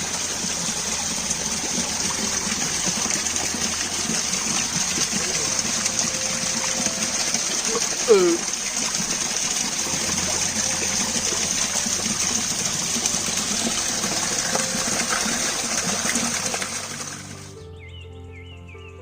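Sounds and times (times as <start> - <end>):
water flowing: 0.0 - 17.6.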